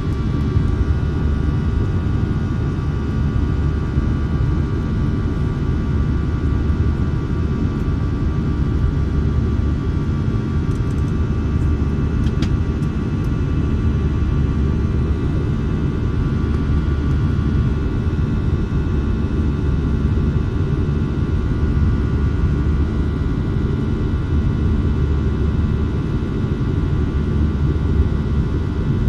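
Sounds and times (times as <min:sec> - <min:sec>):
airliner cabin engine rumble: 0:00.0 - 0:29.0.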